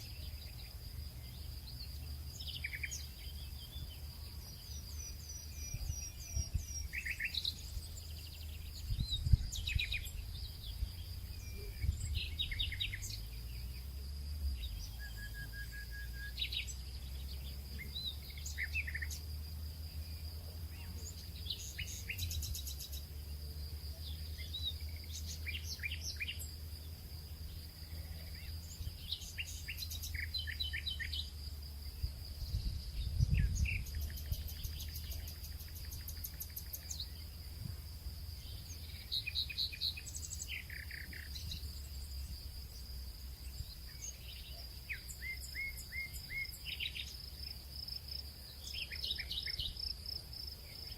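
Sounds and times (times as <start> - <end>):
high insect drone: 0.0 - 50.9
songbirds chirping and trilling: 0.0 - 50.9.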